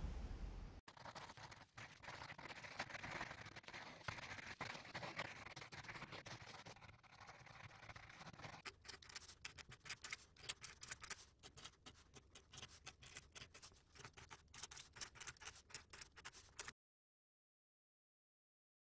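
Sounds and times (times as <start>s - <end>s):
marker pen scratching on paper: 0.9s - 16.7s.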